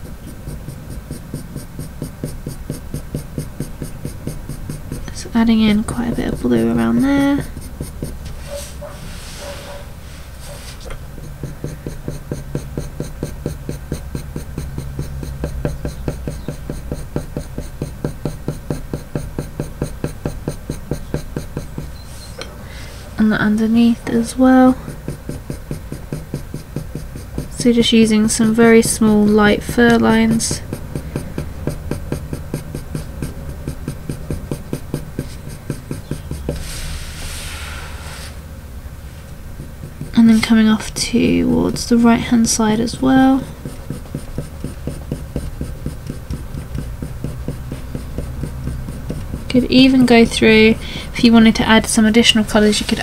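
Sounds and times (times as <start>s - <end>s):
pencil scratching on paper: 0.0s - 38.5s, 39.3s - 53.0s.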